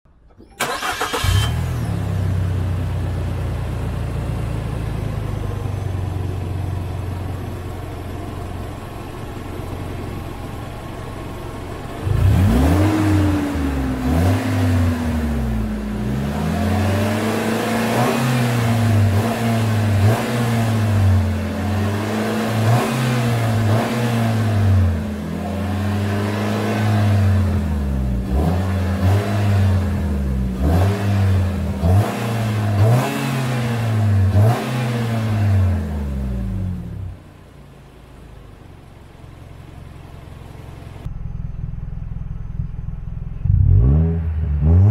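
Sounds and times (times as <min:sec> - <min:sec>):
car engine idling and revving: 0:00.1 - 0:44.9.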